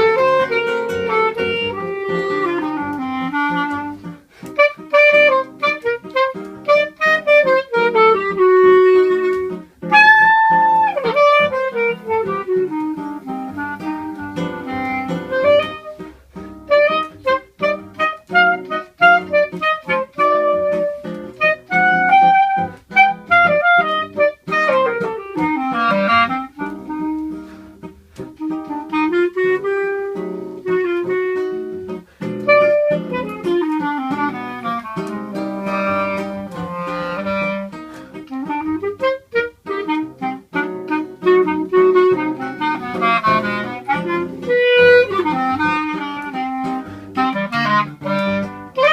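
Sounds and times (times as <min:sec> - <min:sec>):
clarinet melody: 0:00.0 - 0:48.9
plucked guitar accompaniment: 0:00.0 - 0:48.9.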